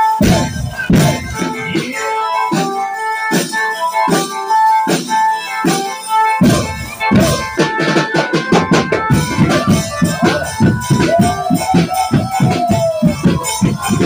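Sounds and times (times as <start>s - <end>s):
heavy rapid drumming: 0.0s - 4.2s, 4.9s - 14.0s
drum band music: 0.0s - 14.0s.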